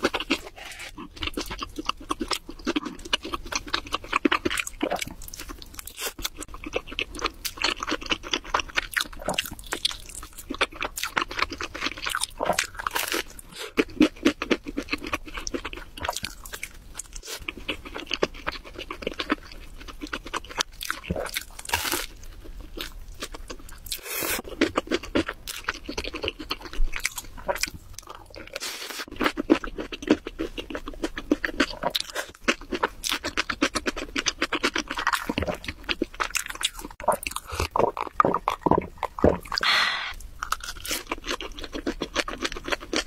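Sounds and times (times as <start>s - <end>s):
chewing crispy food: 0.0s - 43.0s.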